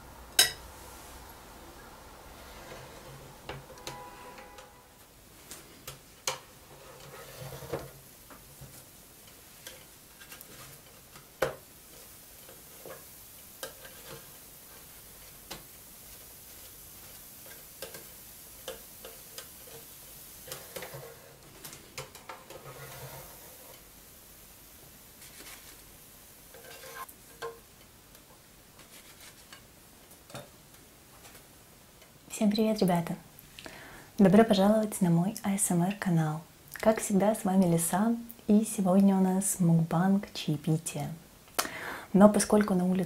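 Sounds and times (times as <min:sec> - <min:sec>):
faint hiss: 0:00.0 - 0:43.0.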